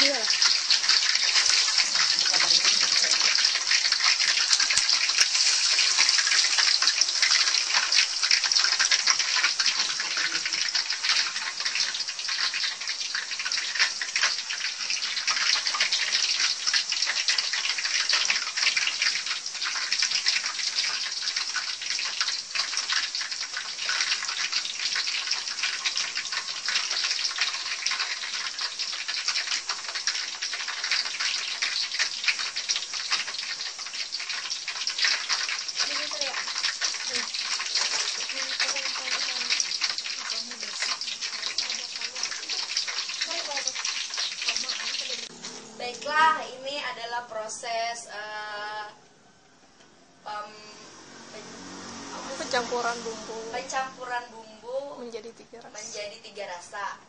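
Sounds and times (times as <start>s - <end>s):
banana slices sizzling in oil: 0.0s - 57.0s.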